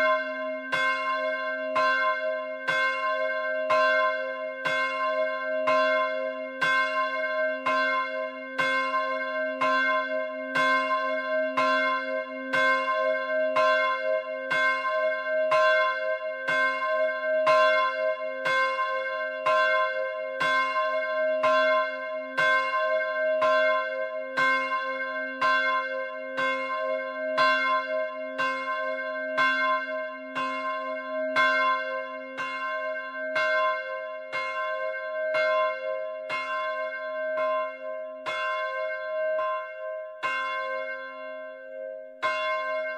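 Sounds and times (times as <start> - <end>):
church bell ringing: 0.0 - 42.9.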